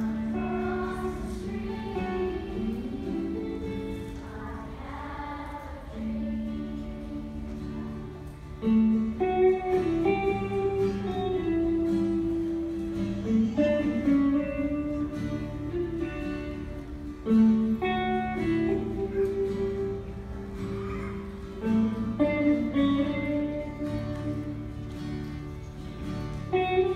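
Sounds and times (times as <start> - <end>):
guitar chords ringing: 0.0 - 26.9.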